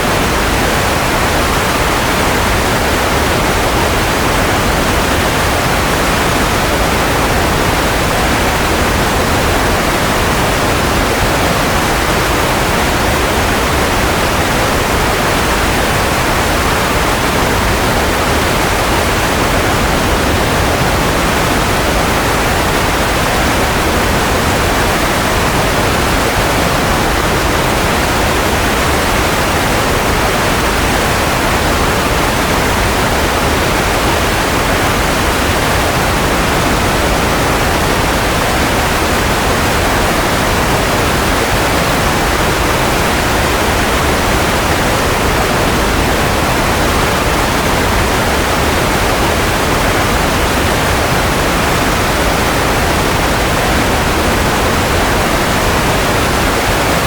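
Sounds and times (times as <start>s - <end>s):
steady synthetic noise hiss: 0.0s - 57.0s.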